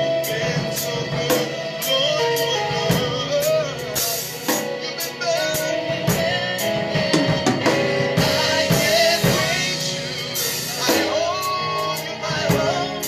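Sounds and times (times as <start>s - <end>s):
drum kit with cymbals: 0.0s - 13.0s
held keyboard or guitar chords: 0.0s - 13.0s
person singing: 0.0s - 13.0s.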